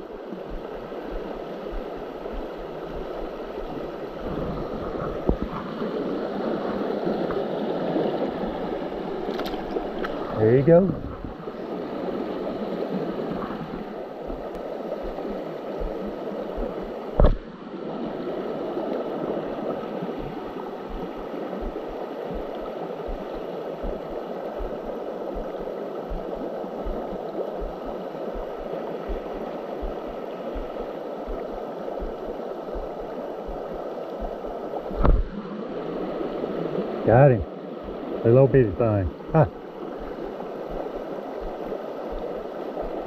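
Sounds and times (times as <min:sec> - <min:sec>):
creek water gurgling: 0:00.0 - 0:43.0.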